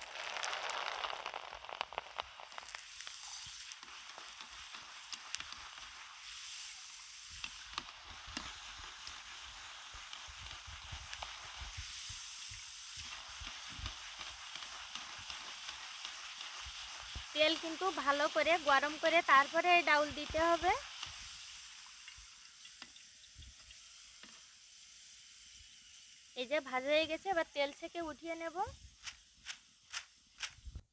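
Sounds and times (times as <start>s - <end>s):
lentils sizzling in hot oil: 0.0s - 30.9s.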